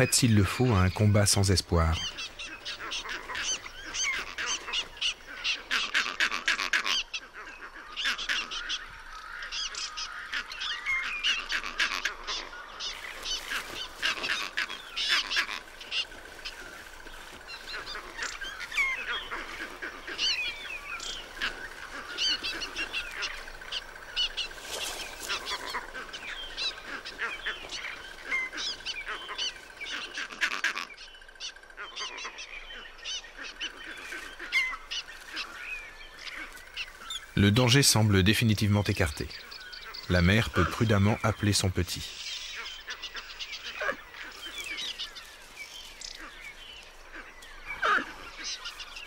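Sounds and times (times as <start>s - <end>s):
birds alarm calls: 0.0s - 49.0s.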